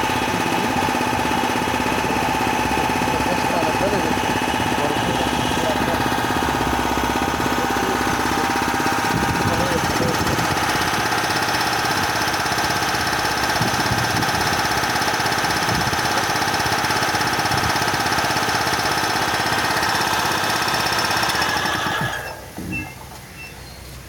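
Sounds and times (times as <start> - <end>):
air compressor running: 0.0 - 23.2.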